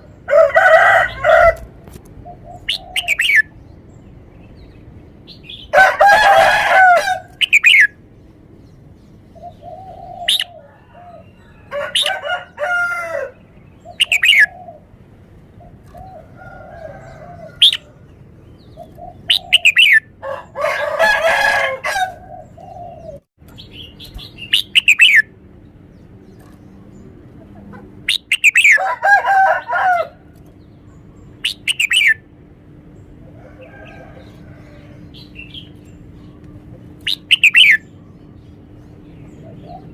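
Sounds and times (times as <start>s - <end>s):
bird warbled song phrases: 0.0s - 39.9s.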